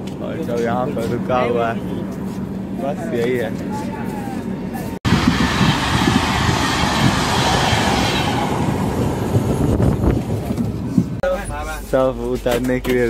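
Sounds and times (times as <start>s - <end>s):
passing train rumble and rattle: 0.0s - 13.0s.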